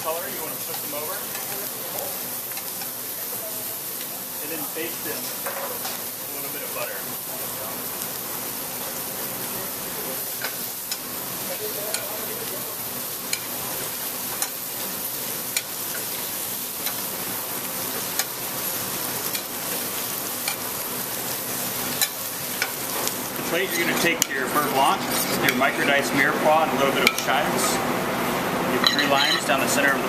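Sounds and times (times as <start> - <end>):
scallops sizzling in butter: 0.0 - 30.0.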